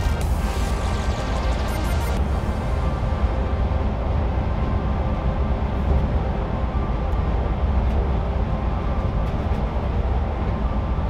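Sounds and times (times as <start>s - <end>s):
road and engine rumble inside vehicle: 0.0s - 11.0s.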